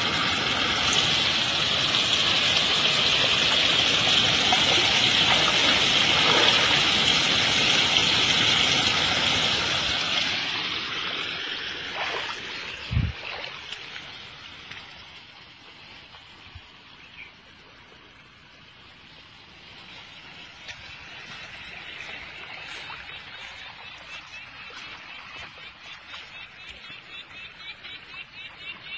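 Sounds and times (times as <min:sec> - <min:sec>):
water rushing in channel: 0:00.0 - 0:28.9.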